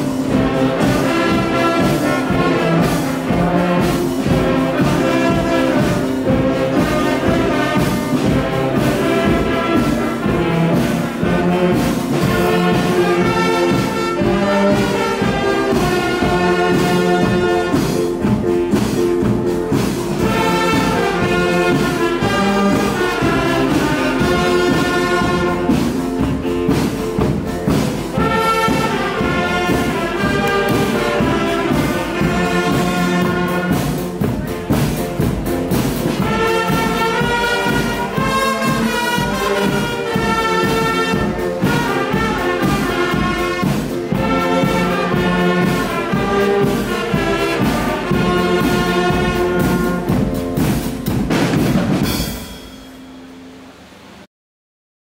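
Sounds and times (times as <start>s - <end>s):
wind band playing: 0.0s - 54.3s.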